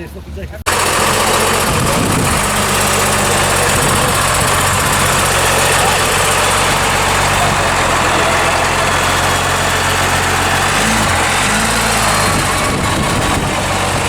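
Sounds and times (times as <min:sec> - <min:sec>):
car engine idling: 0:00.2 - 0:14.0.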